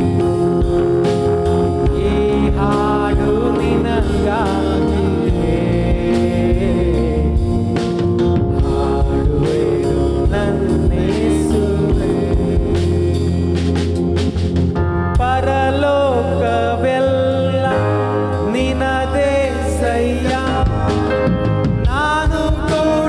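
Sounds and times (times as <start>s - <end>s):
person singing: 0.0s - 13.8s, 15.2s - 23.0s
instrumental backing with strong bass: 0.0s - 23.0s.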